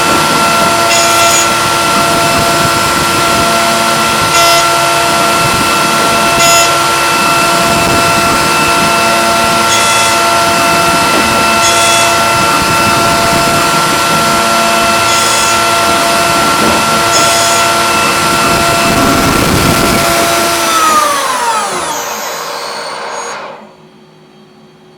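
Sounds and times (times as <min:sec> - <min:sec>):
milling machine spindle whine: 0:00.0 - 0:24.9.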